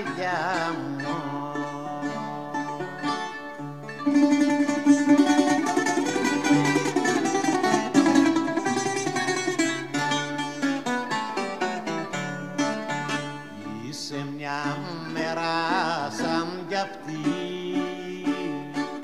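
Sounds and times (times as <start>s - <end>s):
bouzouki plucked melody: 0.0s - 19.0s.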